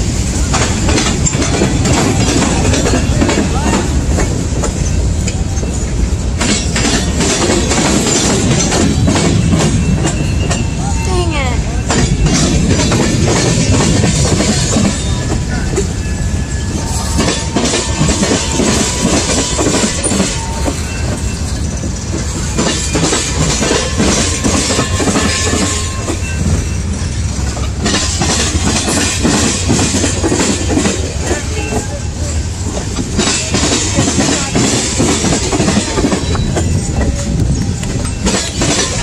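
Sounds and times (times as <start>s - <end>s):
freight train rumbling past: 0.0s - 39.0s
wheels clicking over rail joints: 0.0s - 39.0s.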